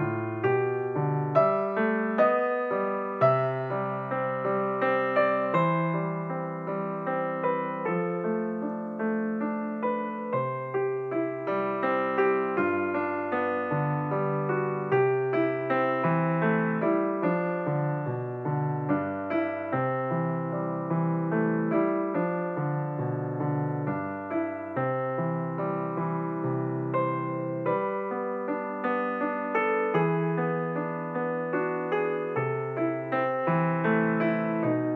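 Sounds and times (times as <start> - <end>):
gentle piano music: 0.0 - 34.9.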